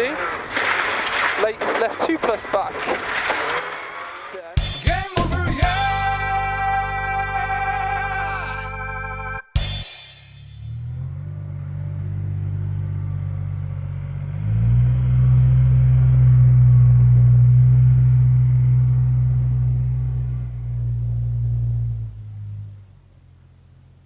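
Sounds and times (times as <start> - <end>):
truck diesel engine droning: 2.3 - 9.4, 10.4 - 24.0.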